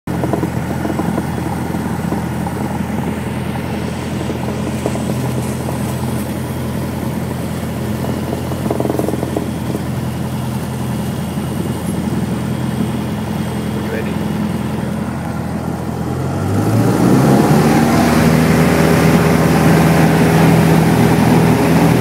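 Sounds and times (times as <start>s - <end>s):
light aircraft engine drone: 0.1s - 22.0s.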